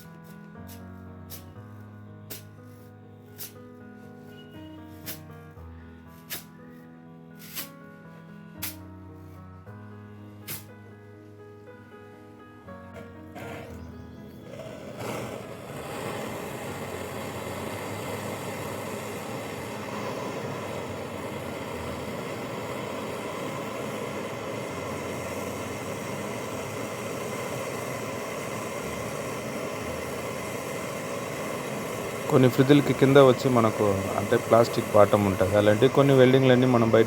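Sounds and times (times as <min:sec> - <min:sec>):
gas torch flame rushing: 0:00.0 - 0:03.6, 0:04.3 - 0:05.3, 0:06.2 - 0:06.6, 0:07.4 - 0:07.8, 0:08.6 - 0:08.8, 0:10.4 - 0:10.8, 0:12.9 - 0:37.0.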